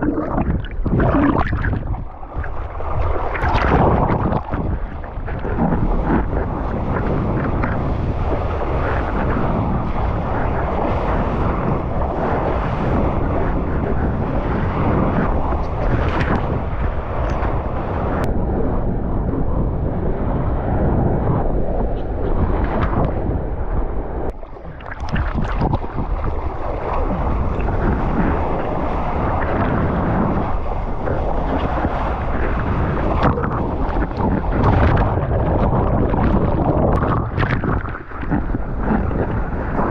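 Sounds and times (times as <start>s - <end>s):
rushing seawater: 0.0s - 18.3s, 20.2s - 39.9s
wind buffeting microphone: 0.0s - 39.9s.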